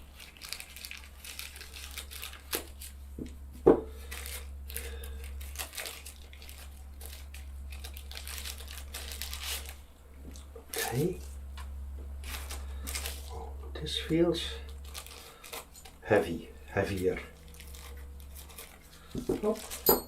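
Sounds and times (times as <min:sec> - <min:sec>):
packaging crinkling and tearing: 0:00.0 - 0:03.1, 0:04.0 - 0:11.4, 0:12.2 - 0:19.9.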